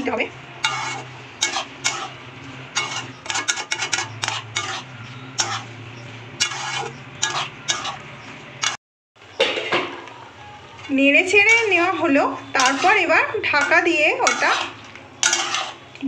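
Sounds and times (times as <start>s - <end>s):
metal spatula scraping pan: 0.2s - 8.8s, 9.5s - 16.0s.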